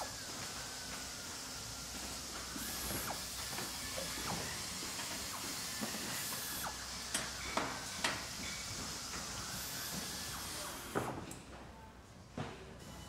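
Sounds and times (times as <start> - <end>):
rotary tool grinding steel: 0.0 - 10.9.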